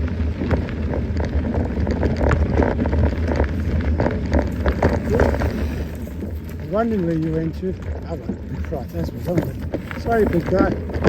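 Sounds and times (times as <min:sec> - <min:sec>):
bike tyres crackling on gravel: 0:00.0 - 0:11.0
wind rumble on microphone: 0:00.0 - 0:11.0.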